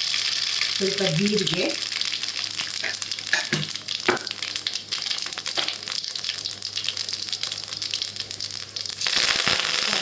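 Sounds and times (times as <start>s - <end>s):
oil sizzling: 0.0s - 10.0s
seeds popping in hot oil: 1.4s - 10.0s.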